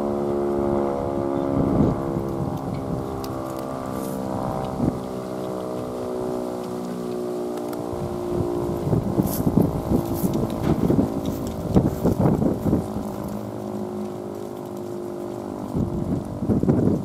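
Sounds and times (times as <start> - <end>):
warning siren steady tone: 0.0 - 17.0
wind buffeting microphone: 0.0 - 17.0.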